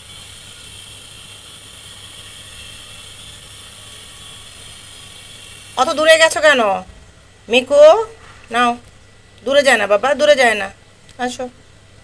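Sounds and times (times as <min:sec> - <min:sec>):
faint whir: 0:00.0 - 0:12.0
steady hiss: 0:00.0 - 0:12.0.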